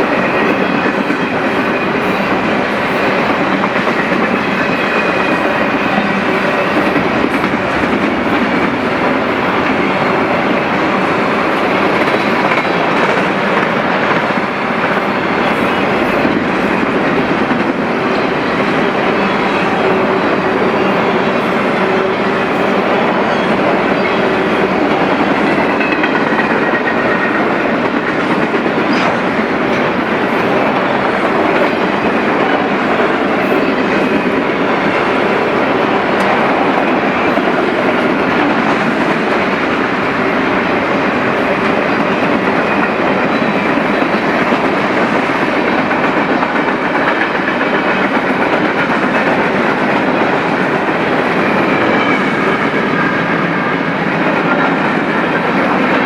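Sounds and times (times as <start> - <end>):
clickety-clack of rail joints: 0.0 - 56.0
steel wheels rumbling on rail: 0.0 - 56.0.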